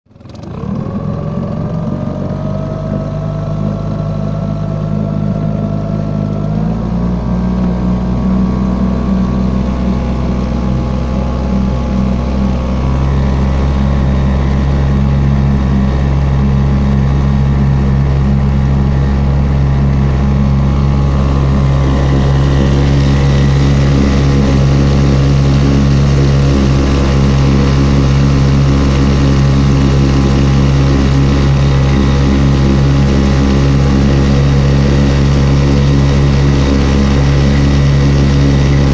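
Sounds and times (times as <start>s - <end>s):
outboard motor drone: 0.1s - 38.9s.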